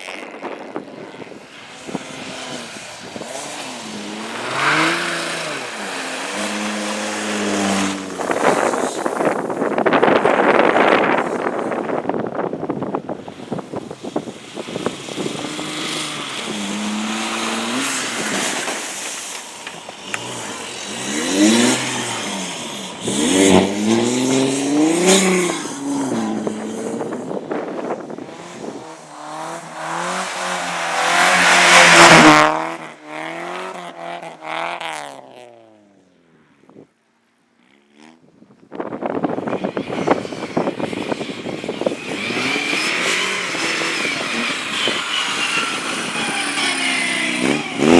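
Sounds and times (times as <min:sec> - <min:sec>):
tyre noise: 0:00.0 - 0:33.9, 0:38.7 - 0:47.9
race car engines revving: 0:00.0 - 0:35.8, 0:38.8 - 0:47.9
rough crackling engine: 0:00.0 - 0:36.1, 0:37.4 - 0:47.9.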